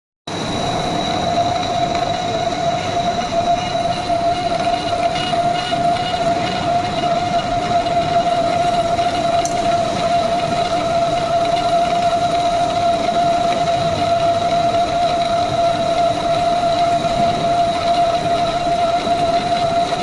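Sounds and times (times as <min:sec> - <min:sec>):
metal lathe running with high whine: 0:00.3 - 0:20.0.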